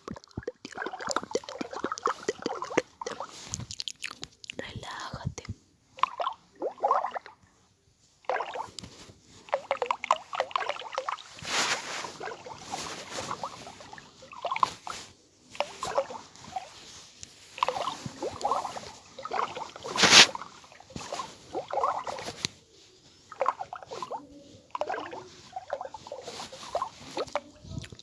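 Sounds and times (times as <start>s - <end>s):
soft wet clicks: 0.0s - 7.5s, 8.3s - 28.0s
rustling: 0.6s - 4.6s, 7.4s - 10.4s, 11.0s - 28.0s.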